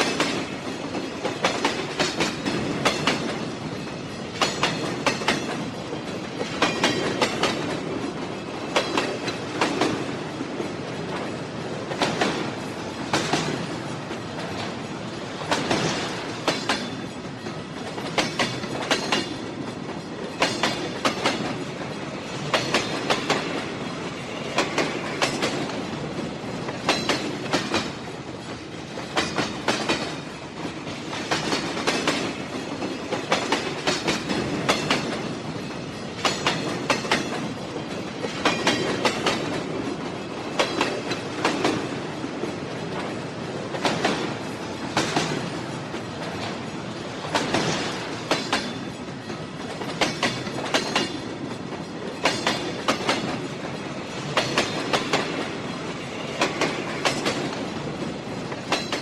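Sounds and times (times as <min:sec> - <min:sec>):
train rumble: 0:00.0 - 0:59.0
wheels clacking over rail joints: 0:00.0 - 0:59.0.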